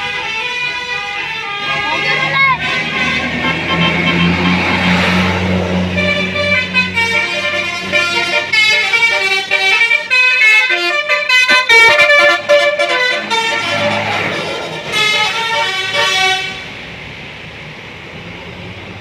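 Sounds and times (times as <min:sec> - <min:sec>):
multi-tone musical air horn: 0:00.0 - 0:16.7
bus engine running: 0:00.0 - 0:19.0.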